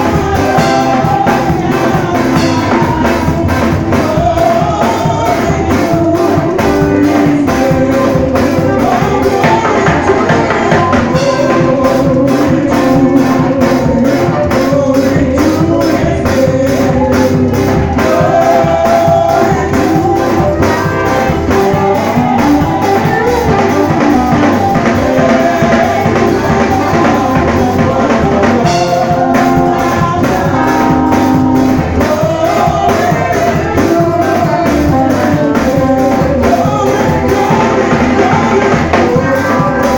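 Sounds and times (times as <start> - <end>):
church band playing: 0.0 - 39.9
drum kit beat: 0.0 - 39.9
voices singing: 0.0 - 39.9.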